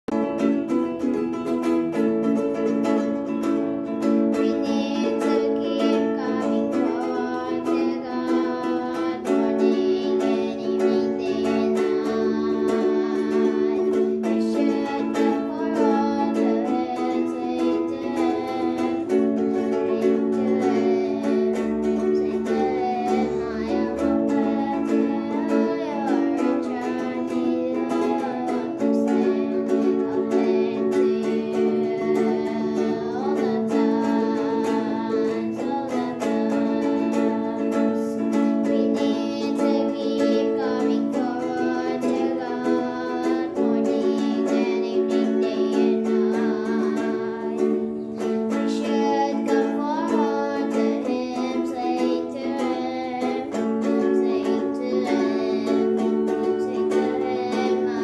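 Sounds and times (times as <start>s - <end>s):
ukulele strumming: 0.0s - 58.0s
child singing: 0.1s - 58.0s.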